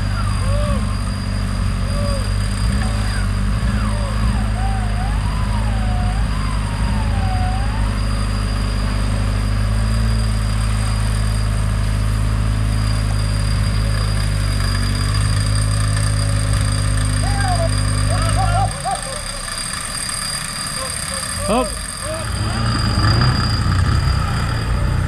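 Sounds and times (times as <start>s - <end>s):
vehicle engine running steadily: 0.0s - 25.0s.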